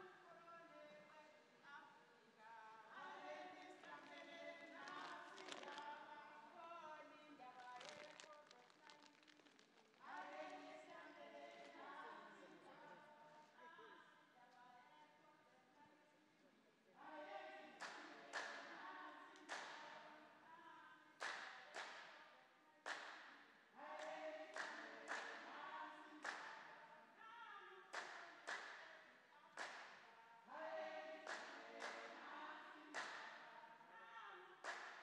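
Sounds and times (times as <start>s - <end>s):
woman singing unaccompanied: 0.0s - 9.1s, 10.0s - 15.9s, 17.0s - 22.0s, 23.8s - 28.4s, 30.2s - 34.6s.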